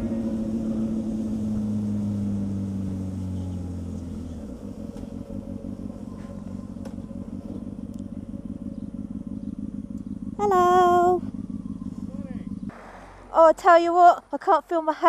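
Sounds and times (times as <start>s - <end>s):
motorcycle engine slowing: 0.0s - 15.0s.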